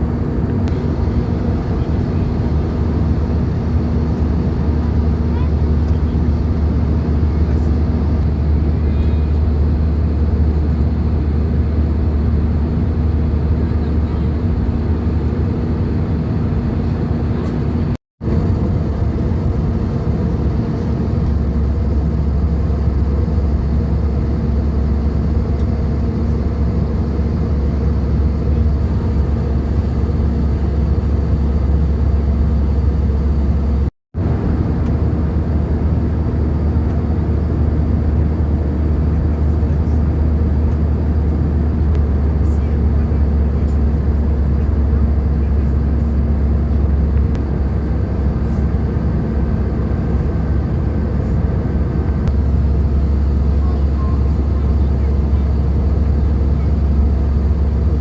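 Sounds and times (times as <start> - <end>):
airliner cabin rumble: 0.0 - 58.0
constant low hum: 0.0 - 58.0.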